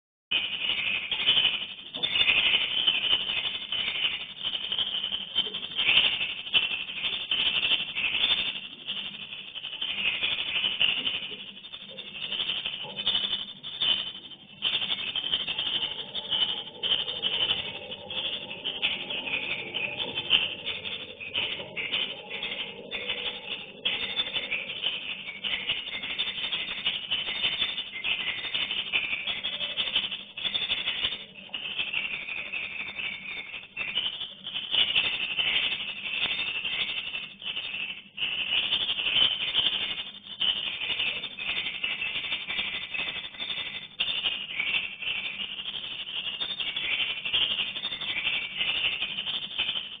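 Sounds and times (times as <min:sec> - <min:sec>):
swiftlets clicking and chirping: 0:00.3 - 0:50.0.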